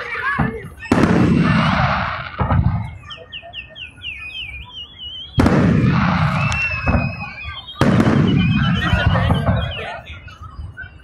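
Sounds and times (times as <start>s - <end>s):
fireworks bursting: 0.0s - 10.8s
crackling fireworks tail: 0.0s - 11.0s.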